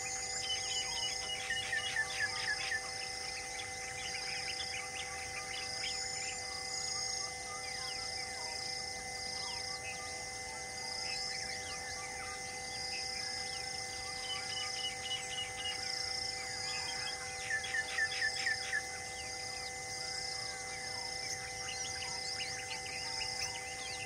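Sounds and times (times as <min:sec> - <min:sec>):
birds chirping and calling: 0:00.0 - 0:08.0, 0:11.1 - 0:24.0
pulsing insect drone: 0:00.0 - 0:24.0.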